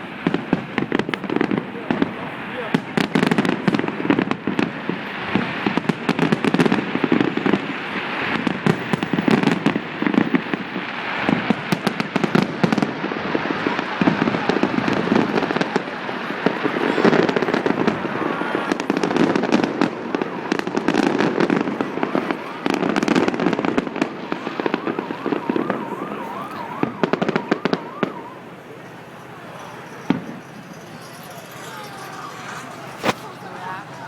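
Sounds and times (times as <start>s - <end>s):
fireworks bangs: 0.0s - 34.0s.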